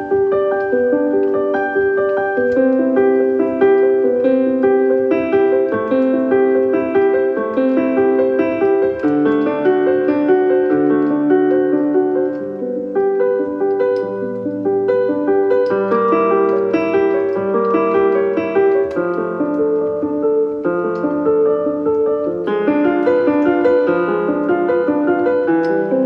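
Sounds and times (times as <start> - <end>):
gentle piano music: 0.0 - 26.0
low piano bass line: 0.0 - 26.0.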